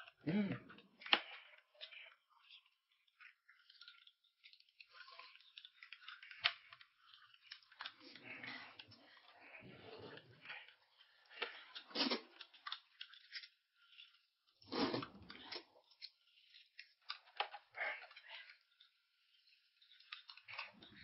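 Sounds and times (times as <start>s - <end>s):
person chewing and crunching: 0.0s - 21.0s.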